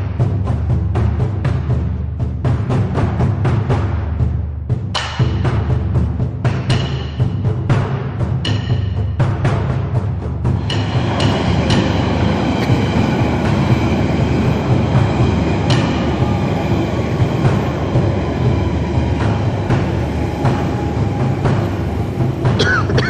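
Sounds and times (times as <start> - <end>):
train rumbling on rails: 0.0 - 23.0.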